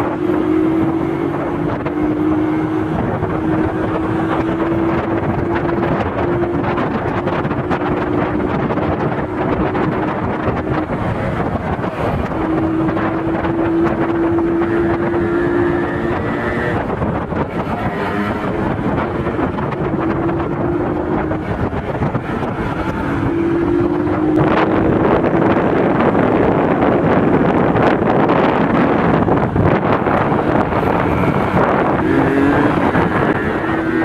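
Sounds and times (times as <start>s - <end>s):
motorcycle engines running: 0.0s - 34.0s
wind noise on microphone: 0.0s - 34.0s.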